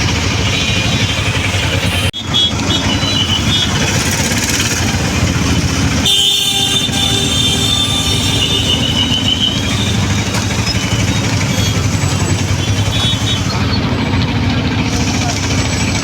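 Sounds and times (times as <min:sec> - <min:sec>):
auto-rickshaw engine running: 0:00.0 - 0:16.0
vehicle horns honking: 0:00.0 - 0:16.0.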